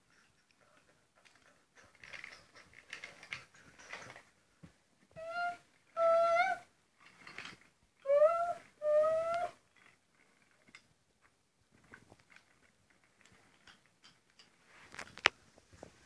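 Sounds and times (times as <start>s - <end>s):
wooden toy train pieces clattering: 0.0s - 4.4s, 5.2s - 15.3s.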